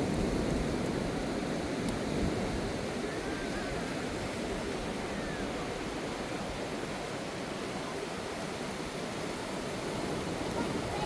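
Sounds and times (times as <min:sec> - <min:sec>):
sea surf breaking on beach: 0:00.0 - 0:11.0.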